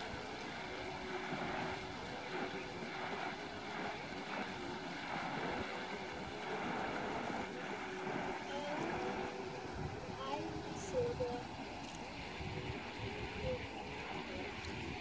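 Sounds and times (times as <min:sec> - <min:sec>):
river water flowing over rocks: 0:00.0 - 0:15.0.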